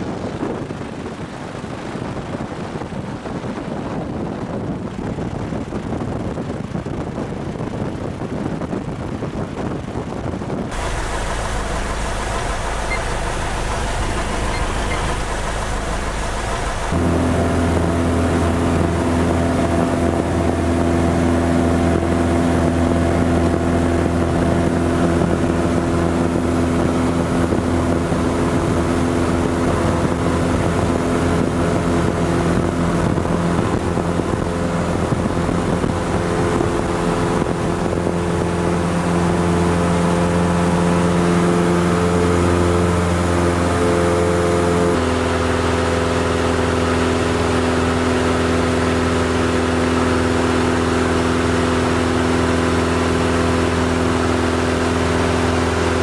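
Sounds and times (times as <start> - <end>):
plane engine and propeller: 0.0 - 56.0.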